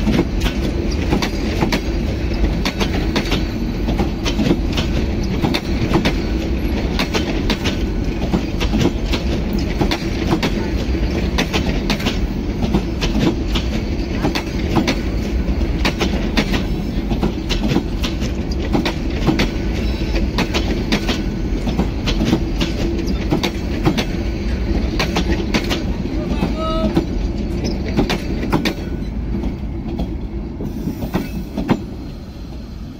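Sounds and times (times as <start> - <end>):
train wheels clicking over rail joints: 0.0 - 32.2
train rumble: 0.0 - 32.9.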